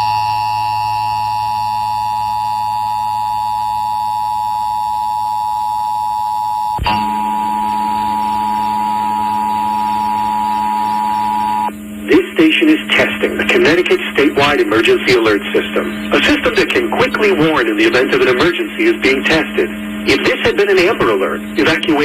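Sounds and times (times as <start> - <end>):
steady two-tone alert: 0.0 - 22.0.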